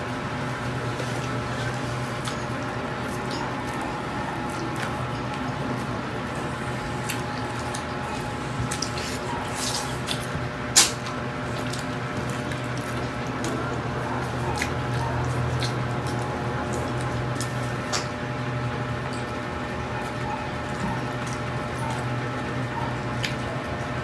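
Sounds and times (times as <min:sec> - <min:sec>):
steady low hum: 0:00.0 - 0:24.0
wet chewing and lip smacks: 0:01.0 - 0:24.0.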